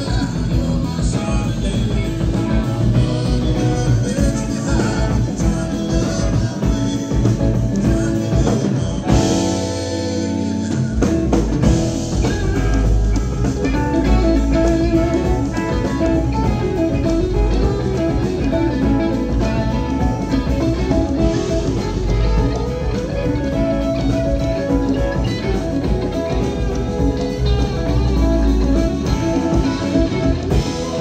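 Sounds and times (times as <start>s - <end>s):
bass: 0.0s - 31.0s
congas: 0.0s - 31.0s
drum kit: 0.0s - 31.0s
electric guitar lines: 0.0s - 31.0s.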